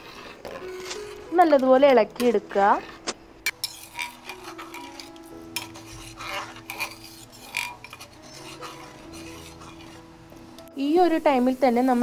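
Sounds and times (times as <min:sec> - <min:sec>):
ladle scraping and clinking on pot: 0:00.0 - 0:10.1
ladle stirring in metal pot: 0:00.0 - 0:10.2.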